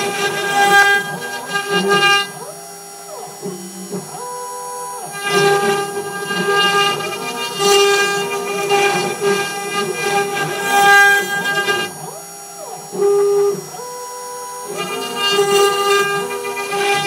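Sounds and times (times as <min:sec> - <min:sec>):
machine motors whining: 0:00.0 - 0:17.0
router bit cutting wood: 0:00.0 - 0:17.0.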